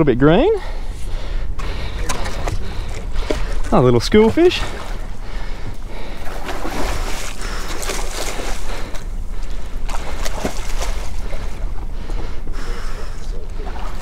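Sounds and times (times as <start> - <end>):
water splashing against boat: 1.6 - 14.0.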